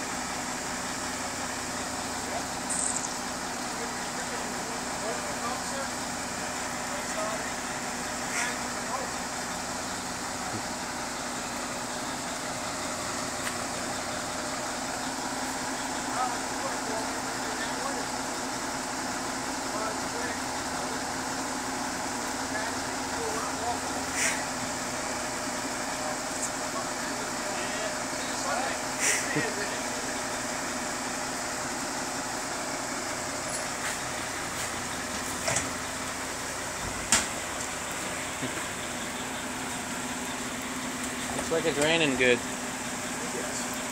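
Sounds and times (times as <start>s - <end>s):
diesel truck engine idling: 0.0s - 43.9s
rain hissing: 1.4s - 43.9s.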